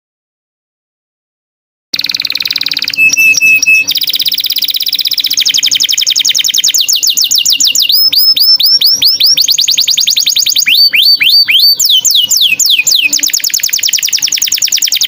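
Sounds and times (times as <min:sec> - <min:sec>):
songbird trills and whistles: 0:02.0 - 0:15.0.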